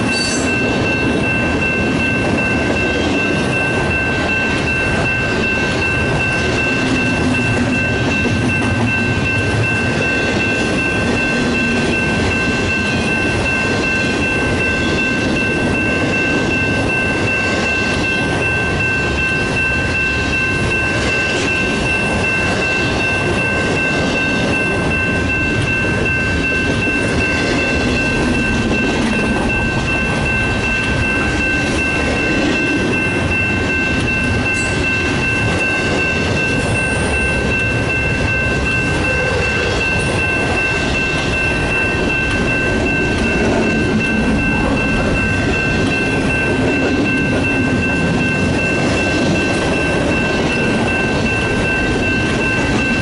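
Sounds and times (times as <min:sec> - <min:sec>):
steady high-pitched tone: 0:00.0 - 0:53.0
train wheels rumbling on rails: 0:00.0 - 0:53.0.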